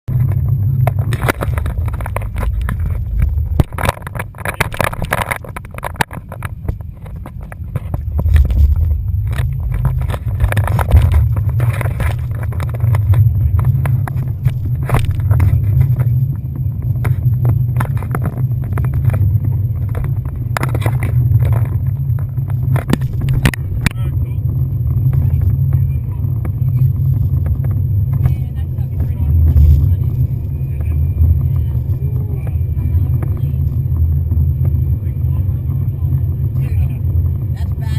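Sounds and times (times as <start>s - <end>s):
speedboat engine rumbling: 0.0s - 37.9s.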